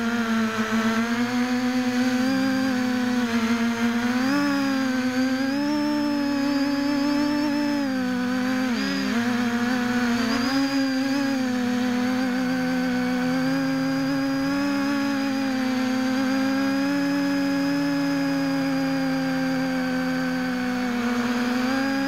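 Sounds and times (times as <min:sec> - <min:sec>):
high-pitched drone motors humming: 0:00.0 - 0:22.0
lower wavering hum: 0:00.0 - 0:22.0.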